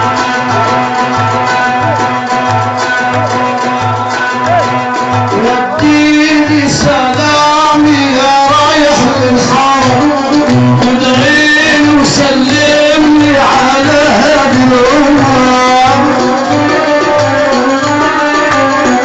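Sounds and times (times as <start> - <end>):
party music from a band: 0.0 - 19.0.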